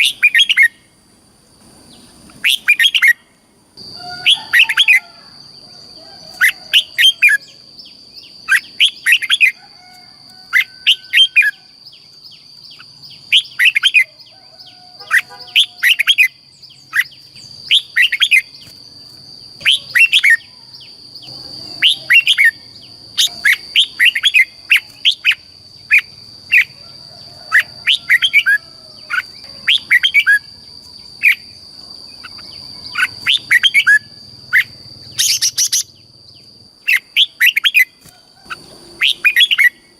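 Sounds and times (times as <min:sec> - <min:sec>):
bird singing whistled notes: 0:00.0 - 0:00.8, 0:01.9 - 0:03.2, 0:06.2 - 0:09.6, 0:10.5 - 0:18.8, 0:19.5 - 0:26.8, 0:27.5 - 0:31.5, 0:32.1 - 0:39.9.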